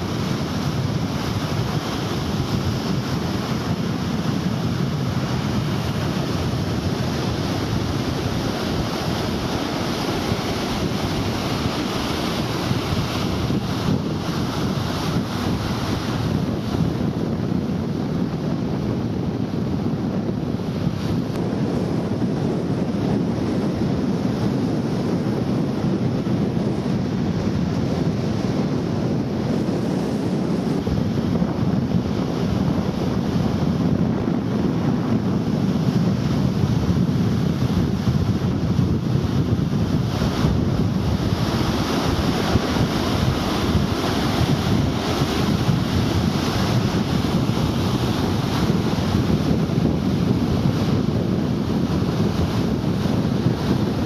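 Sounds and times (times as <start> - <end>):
surf: 0.0 - 54.0
wind rushing over microphone: 0.0 - 54.0.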